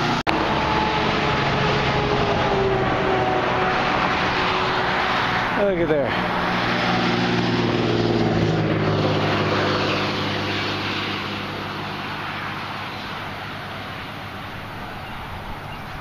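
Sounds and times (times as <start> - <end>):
vehicle passing by: 0.0 - 16.0
wind and road noise: 0.0 - 16.0.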